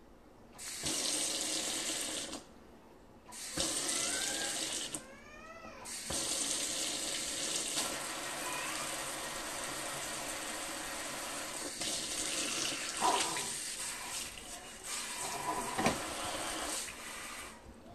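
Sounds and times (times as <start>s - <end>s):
faucet water running into sink: 0.6s - 2.4s, 3.4s - 5.0s, 5.9s - 17.6s.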